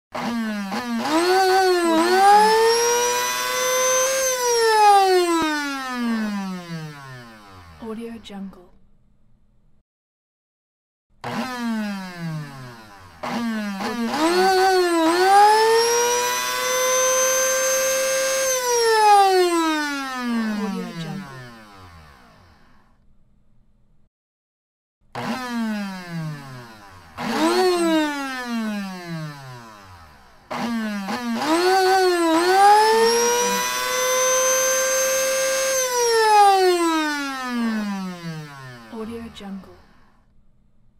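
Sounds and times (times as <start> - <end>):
coffee grinder motor whine: 0.2 - 7.8, 11.2 - 23.0, 25.2 - 40.3.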